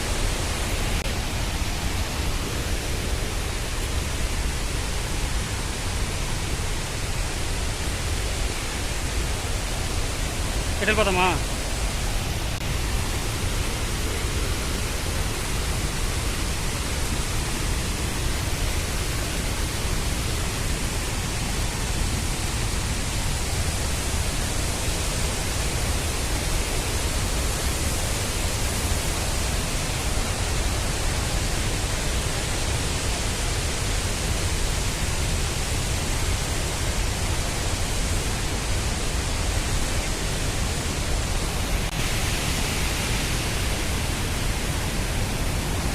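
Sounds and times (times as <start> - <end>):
waterfall roaring: 0.0 - 45.9.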